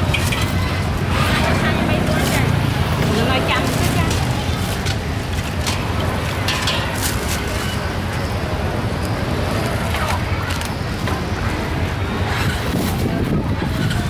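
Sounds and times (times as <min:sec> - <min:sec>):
motorbike engines and traffic: 0:00.0 - 0:14.0.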